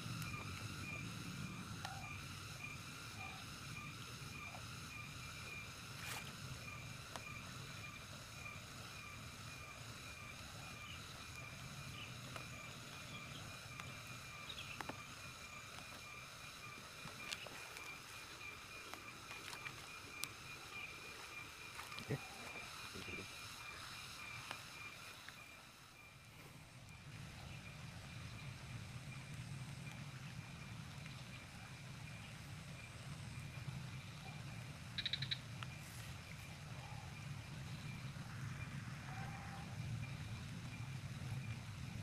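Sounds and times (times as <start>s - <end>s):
pulsing frog chorus: 0.0s - 42.0s.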